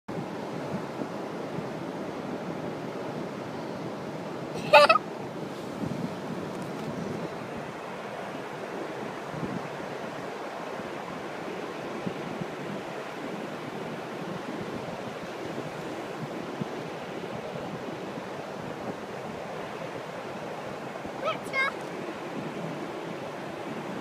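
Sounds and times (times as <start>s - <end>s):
surf washing on sandy beach: 0.1s - 24.0s.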